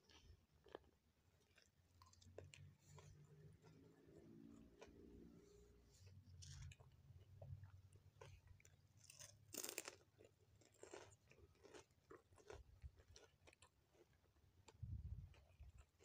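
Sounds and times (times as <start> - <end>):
crunching of food being eaten: 0.0 - 16.0.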